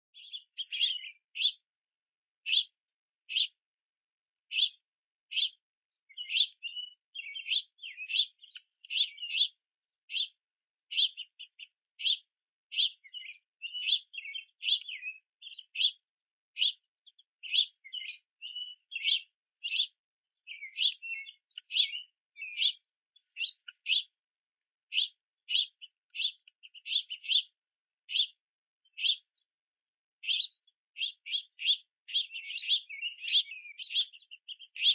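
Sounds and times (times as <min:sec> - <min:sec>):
finch chicks begging calls: 0:00.2 - 0:01.7, 0:02.5 - 0:03.6, 0:04.5 - 0:16.0, 0:16.6 - 0:24.2, 0:24.9 - 0:29.4, 0:30.2 - 0:34.9.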